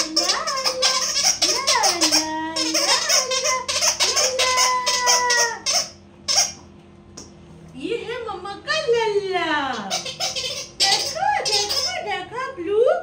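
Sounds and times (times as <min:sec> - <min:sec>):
woman baby talking: 0:00.0 - 0:05.7, 0:07.8 - 0:13.0.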